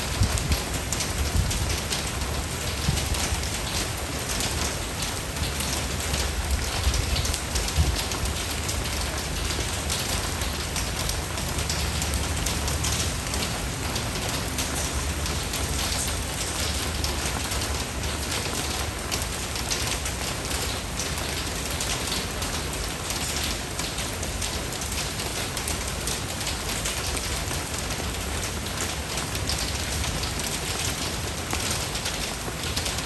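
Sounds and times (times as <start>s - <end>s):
rain falling on a surface: 0.0s - 33.0s.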